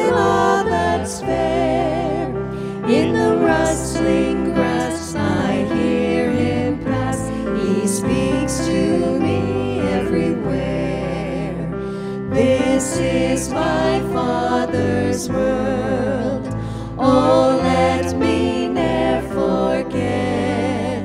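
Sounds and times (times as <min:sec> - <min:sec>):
women singing a hymn: 0:00.0 - 0:21.0.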